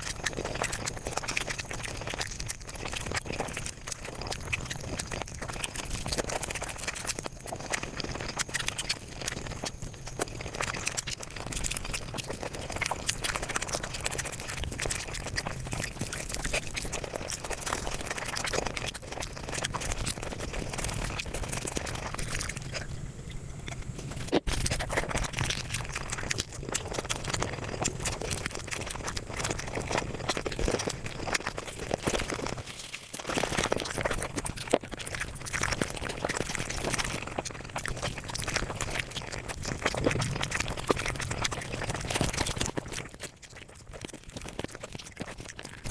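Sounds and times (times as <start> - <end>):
sped-up chewing and crunching: 0.0 - 45.9.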